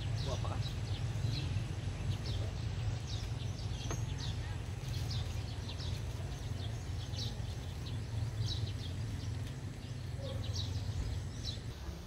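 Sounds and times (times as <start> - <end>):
birds chirping: 0.0 - 12.0
low outdoor rumble: 0.0 - 12.0.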